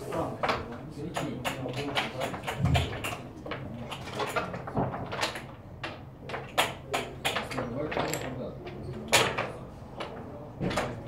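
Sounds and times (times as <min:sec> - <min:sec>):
checkers and dice clicking on wood: 0:00.4 - 0:10.2.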